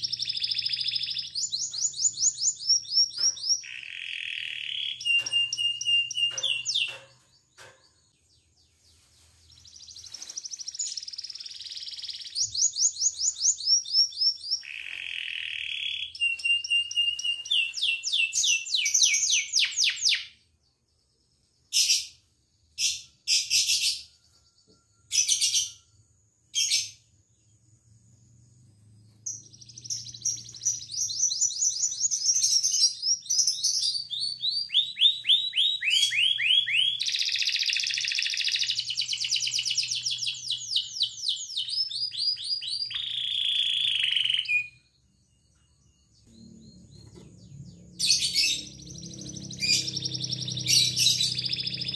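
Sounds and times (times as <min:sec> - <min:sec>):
canary singing trills: 0:00.0 - 0:20.4, 0:28.6 - 0:51.9.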